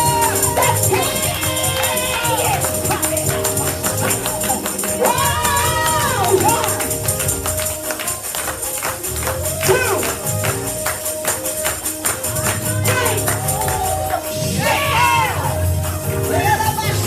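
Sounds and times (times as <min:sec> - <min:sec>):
held chords: 0:00.0 - 0:17.0
person singing: 0:00.0 - 0:17.0
tambourine jingling: 0:00.0 - 0:17.0.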